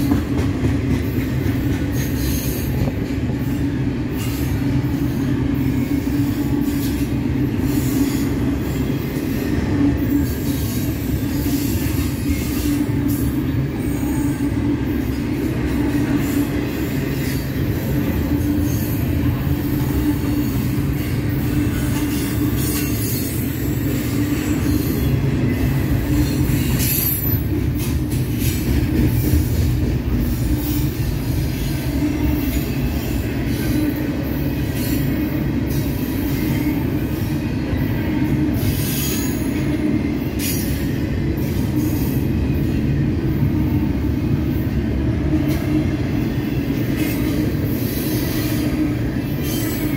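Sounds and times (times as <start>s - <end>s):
rail cars rattling: 0.0s - 49.9s
train wheels rumbling on rail: 0.0s - 49.9s.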